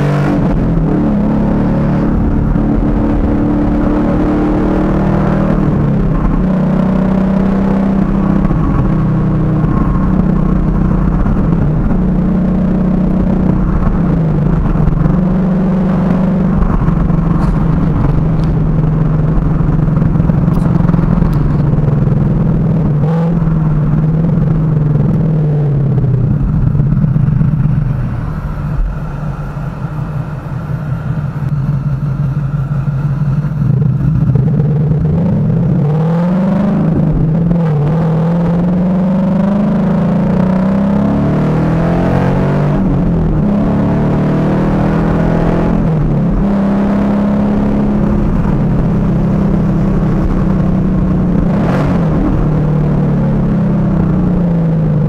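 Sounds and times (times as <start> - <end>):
car engine drone inside cabin: 0.0 - 55.0.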